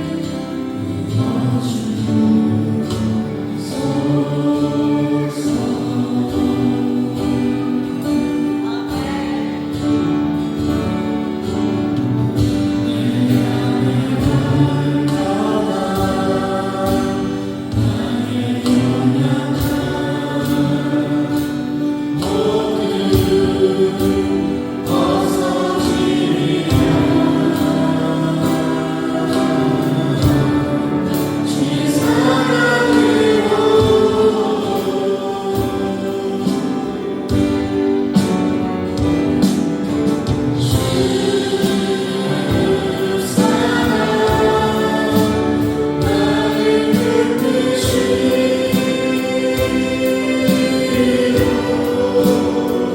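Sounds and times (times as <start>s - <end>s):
choir singing: 0.0s - 52.9s
instrumental accompaniment with beat: 0.0s - 52.9s.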